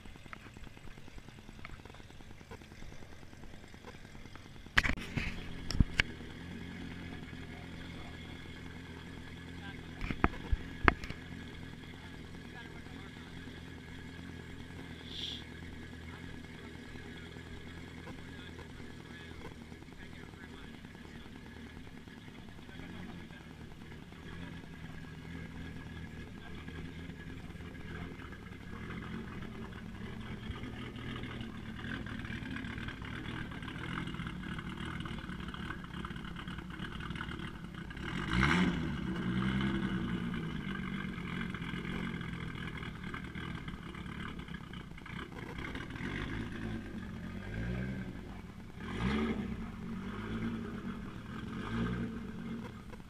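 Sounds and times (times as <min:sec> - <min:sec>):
car engines running: 0:00.0 - 0:53.0
car engine revving: 0:01.3 - 0:53.0.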